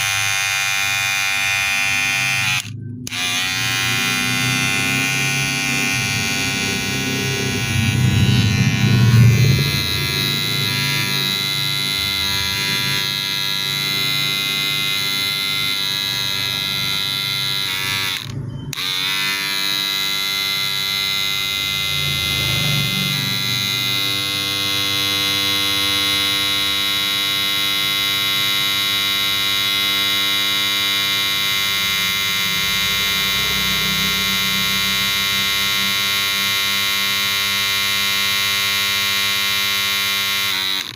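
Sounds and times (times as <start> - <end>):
hair clipper buzzing: 0.0 - 40.9.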